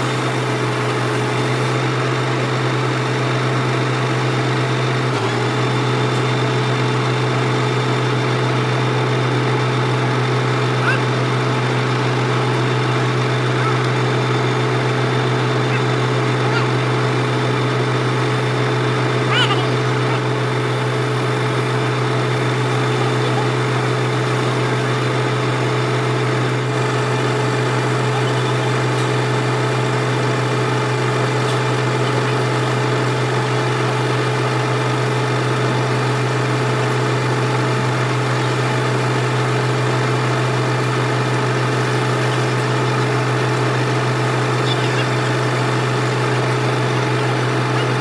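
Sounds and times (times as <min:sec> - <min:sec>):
machine motor humming: 0:00.0 - 0:48.0.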